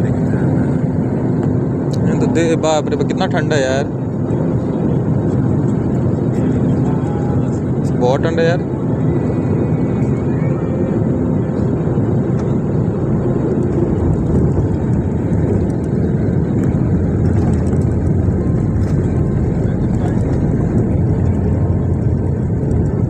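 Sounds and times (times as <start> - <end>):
jet engine roar in cabin: 0.0 - 23.0
plane rolling on runway: 0.0 - 23.0.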